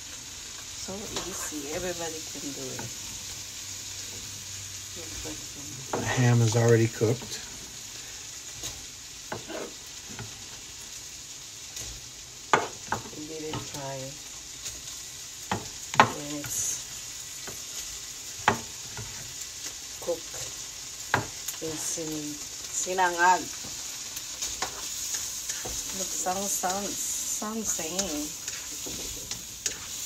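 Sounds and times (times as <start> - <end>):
ham and onions sizzling in butter: 0.0 - 30.0.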